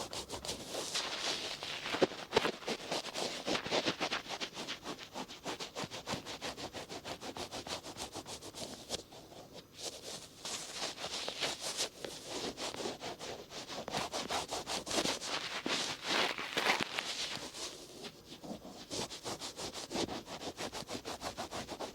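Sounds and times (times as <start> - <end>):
cotton swab scratching ear: 0.0 - 21.9.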